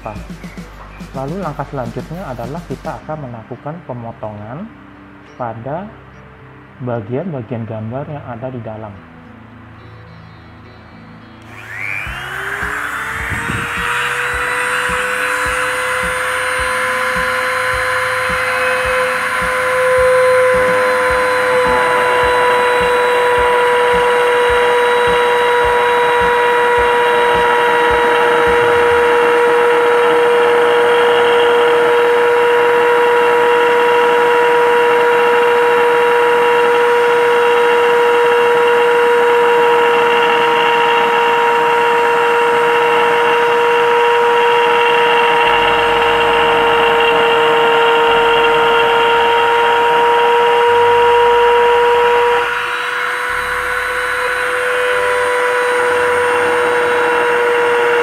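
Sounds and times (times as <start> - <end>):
rotary grinder whining: 11.4 - 58.0
gritty rasp of cutting pipe: 11.5 - 58.0.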